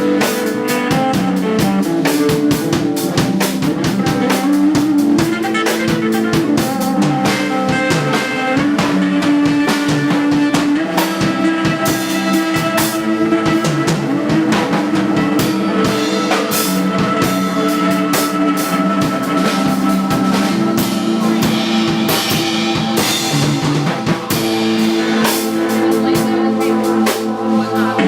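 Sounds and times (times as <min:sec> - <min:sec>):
live band playing: 0:00.0 - 0:28.0.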